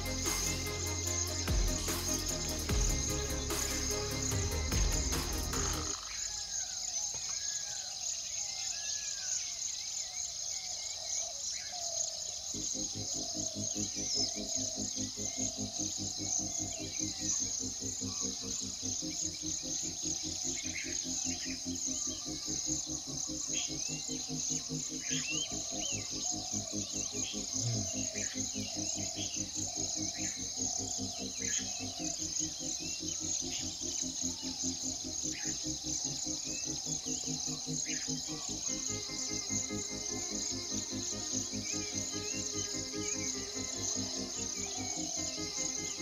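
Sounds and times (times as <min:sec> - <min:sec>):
low pulsing background: 0:00.0 - 0:06.3, 0:12.4 - 0:46.0
bird chirps: 0:00.0 - 0:46.0
insect chorus: 0:00.0 - 0:46.0.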